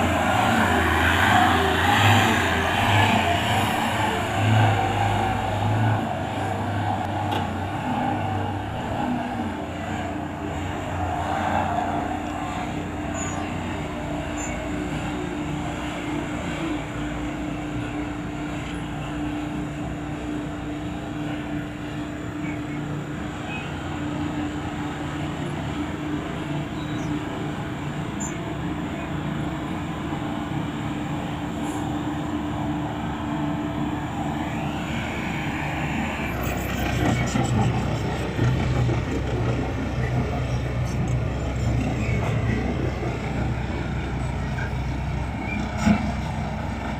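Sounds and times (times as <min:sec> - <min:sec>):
heavy vehicle engine humming: 0:00.0 - 0:46.9.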